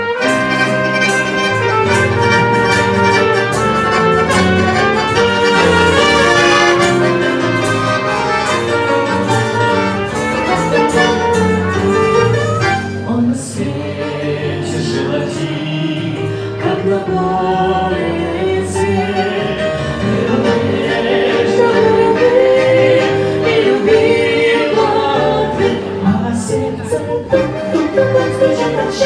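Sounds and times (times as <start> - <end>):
instrumental music: 0.0 - 29.0.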